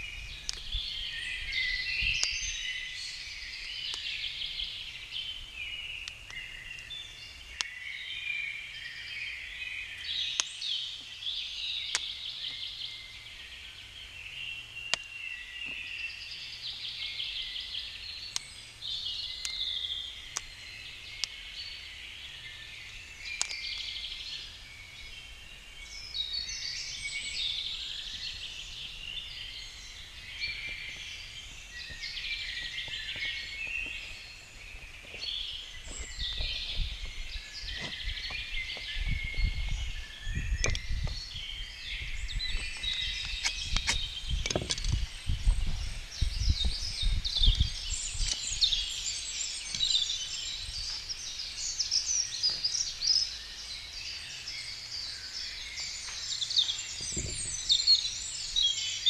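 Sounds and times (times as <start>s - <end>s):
birds singing: 0.0s - 59.0s.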